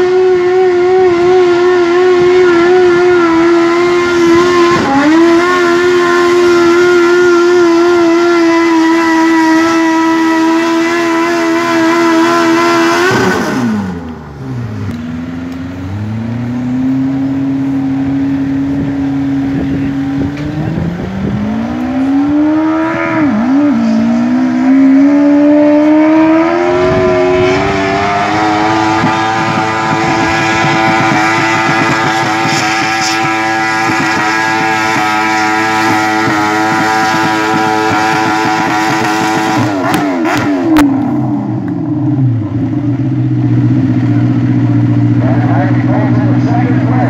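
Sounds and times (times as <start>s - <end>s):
lawnmower engine revving: 0.0s - 47.0s.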